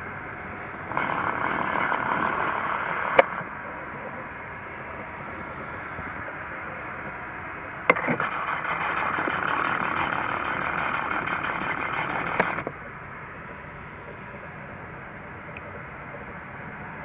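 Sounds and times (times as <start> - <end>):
jet engines hissing at taxi: 0.0 - 17.0.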